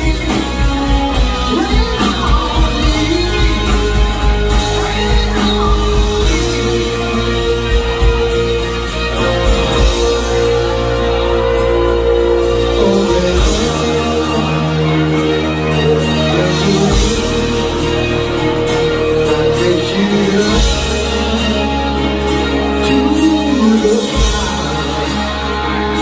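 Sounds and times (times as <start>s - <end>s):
live rock band: 0.0s - 26.0s.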